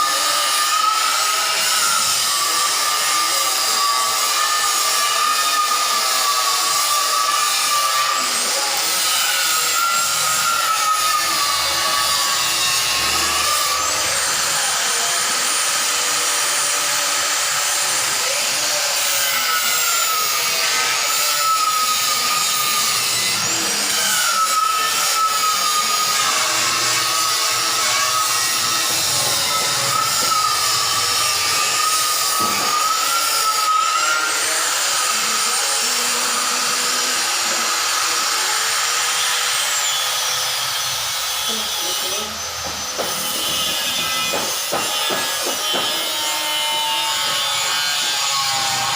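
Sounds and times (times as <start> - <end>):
power tool running: 0.0 - 48.9.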